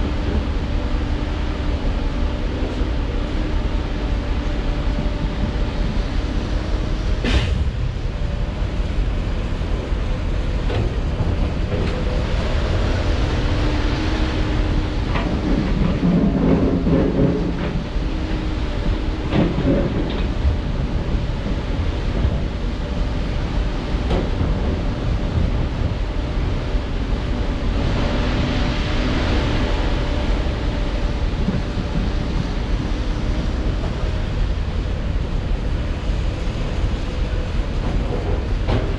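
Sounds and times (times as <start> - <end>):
heavy machinery diesel engines: 0.0 - 38.9.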